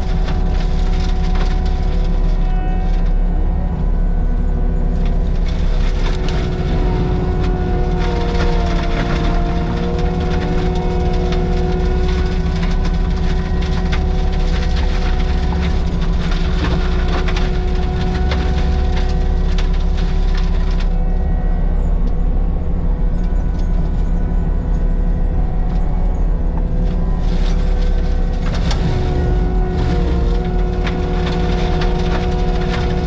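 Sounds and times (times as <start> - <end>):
heavy diesel machine running: 0.0 - 33.0.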